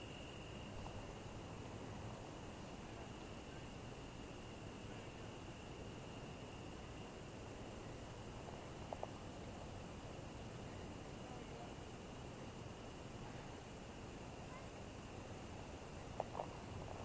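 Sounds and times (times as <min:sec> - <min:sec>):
crickets and insects trilling: 0:00.0 - 0:17.0.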